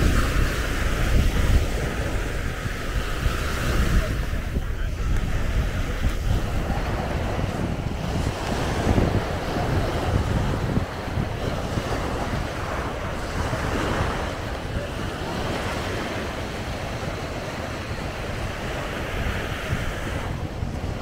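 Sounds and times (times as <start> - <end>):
waves breaking on shore: 0.0 - 21.0
wind buffeting microphone: 0.0 - 21.0.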